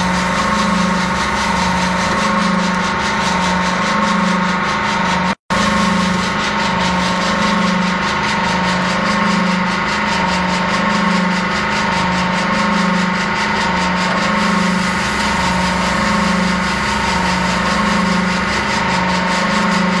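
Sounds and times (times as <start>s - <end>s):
fast mechanical flutter: 0.0s - 20.0s
packing machine humming: 0.0s - 20.0s.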